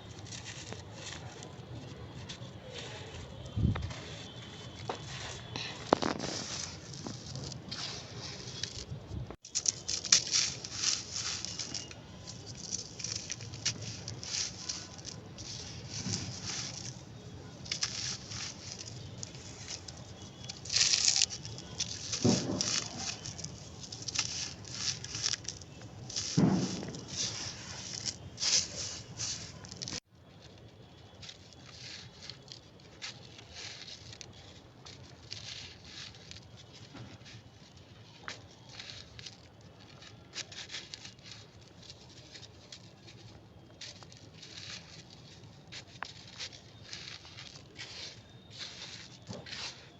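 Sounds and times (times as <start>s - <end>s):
brittle material crunching: 0.0s - 49.9s.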